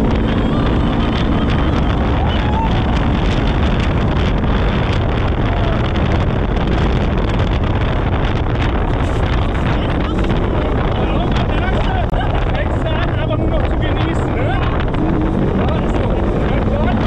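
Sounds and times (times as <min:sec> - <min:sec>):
off-road vehicle engine driving: 0:00.0 - 0:17.0
wind buffeting microphone: 0:00.0 - 0:17.0.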